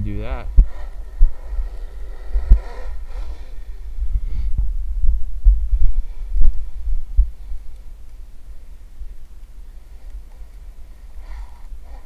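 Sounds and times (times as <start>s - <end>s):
faint electric motor whine: 0.0s - 12.0s.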